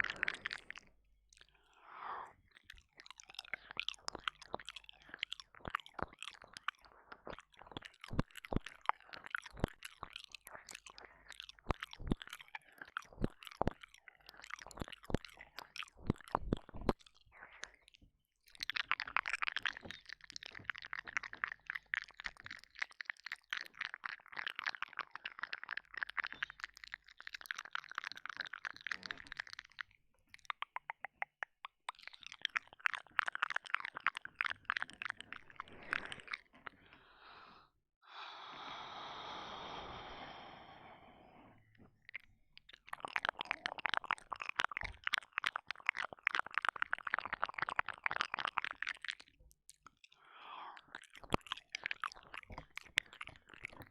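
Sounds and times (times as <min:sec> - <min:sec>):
wet licking: 0:00.0 - 0:01.7, 0:02.3 - 0:36.9, 0:42.0 - 0:53.9
mouth clicks and smacks: 0:00.0 - 0:37.1, 0:41.6 - 0:53.9.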